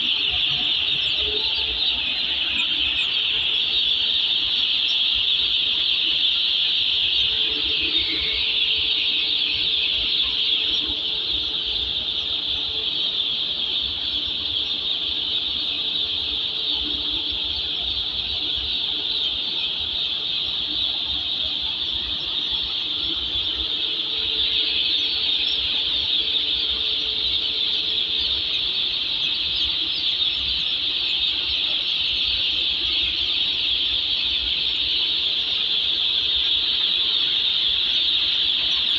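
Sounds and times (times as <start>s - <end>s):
chicks peeping chorus: 2.6s - 38.9s.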